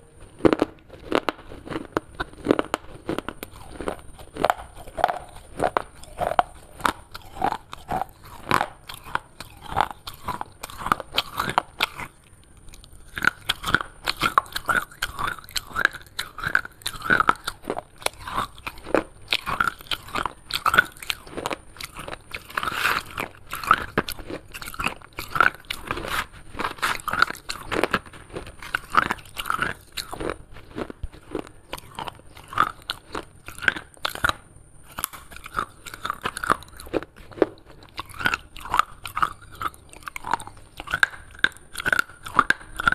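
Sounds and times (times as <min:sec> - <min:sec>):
chewing brittle shards: 0:00.4 - 0:42.9.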